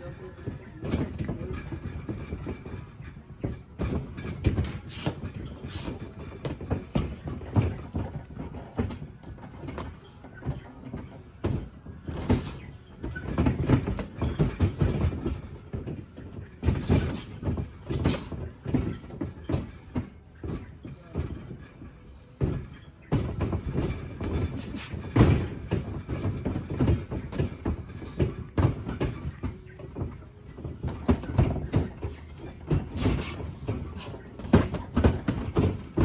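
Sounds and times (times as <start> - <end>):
boxing gloves slapping and thudding: 3.4 - 20.7, 22.4 - 36.0.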